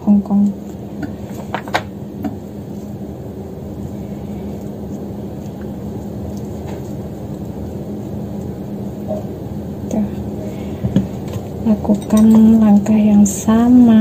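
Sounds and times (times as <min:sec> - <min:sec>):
appliance motor humming: 0:00.0 - 0:14.0.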